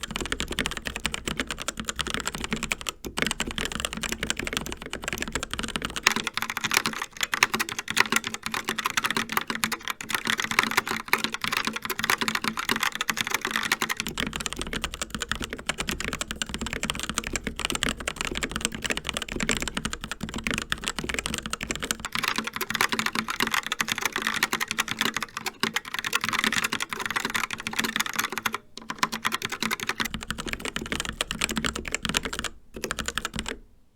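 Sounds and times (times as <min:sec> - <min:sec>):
fast typing on mechanical keyboards: 0:00.0 - 0:33.6.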